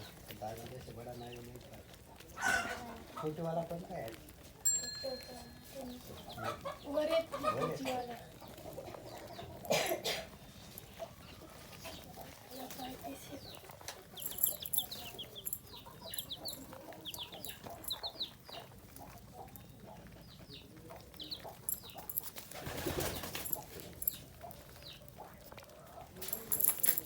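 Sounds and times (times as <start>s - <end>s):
chicks cheeping: 0.0s - 26.5s
chickens clucking: 0.0s - 27.0s.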